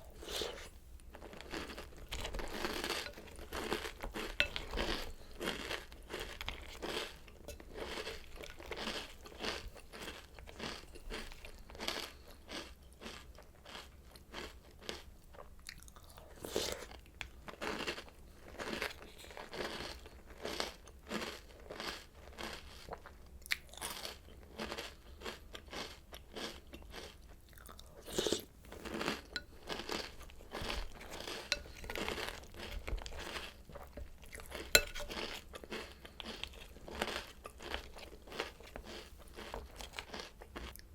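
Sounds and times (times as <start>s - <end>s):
crunching and chewing cereal: 0.0s - 40.9s.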